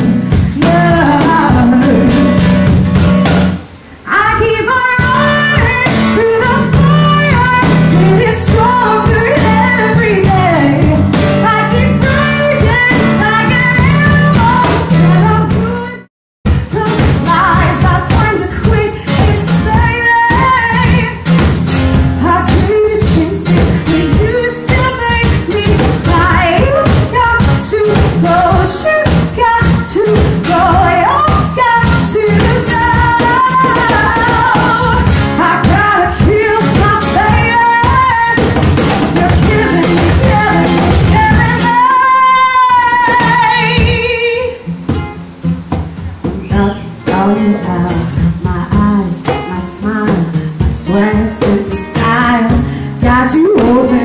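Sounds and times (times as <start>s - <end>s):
woman singing soul: 0.0s - 3.3s, 4.0s - 44.8s, 46.2s - 54.0s
acoustic guitar: 0.0s - 54.0s.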